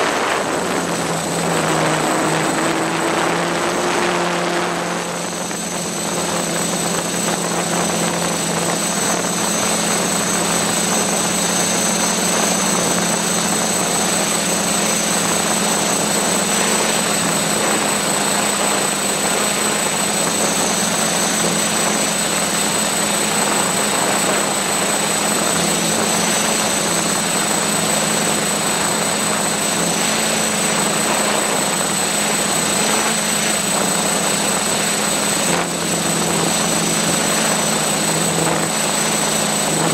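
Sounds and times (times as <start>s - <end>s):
drone motors humming and whining: 0.0s - 39.9s
propeller wash rushing: 0.0s - 39.9s.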